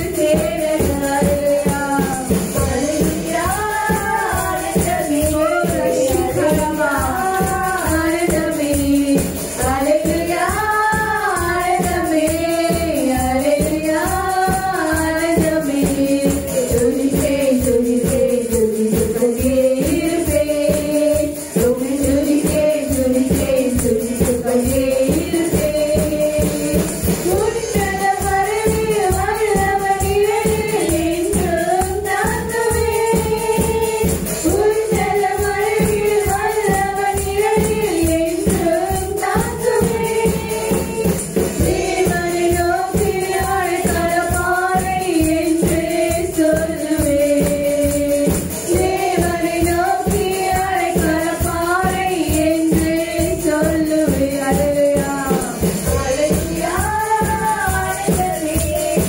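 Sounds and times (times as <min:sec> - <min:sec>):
band accompaniment with steady beat: 0:00.0 - 0:59.0
voices singing: 0:00.0 - 0:59.0.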